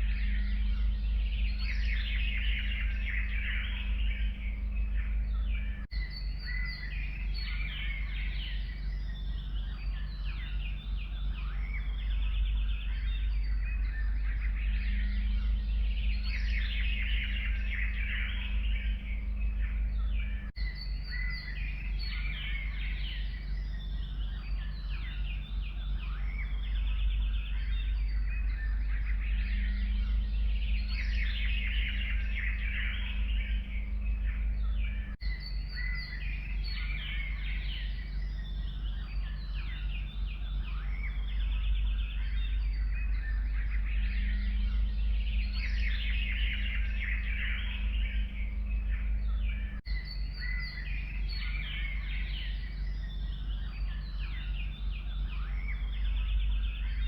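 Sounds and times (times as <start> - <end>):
songbirds chirping and trilling: 0.0 - 57.0
steady low rumble: 0.0 - 57.0.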